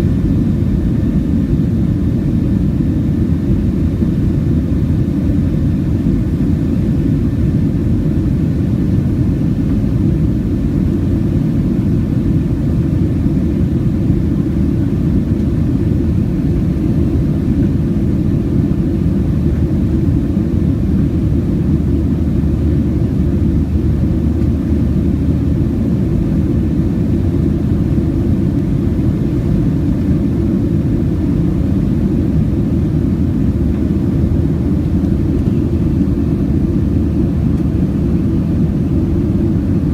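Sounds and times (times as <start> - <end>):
airflow in cabin: 0.0 - 39.9
jet engines rumbling: 0.0 - 39.9.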